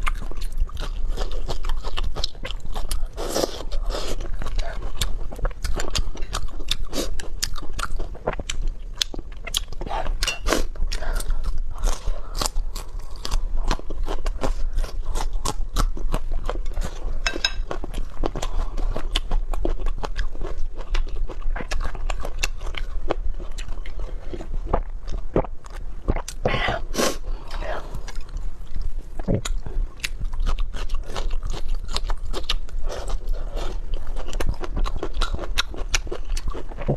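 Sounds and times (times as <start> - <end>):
person chewing crunchy food: 0.0 - 36.9.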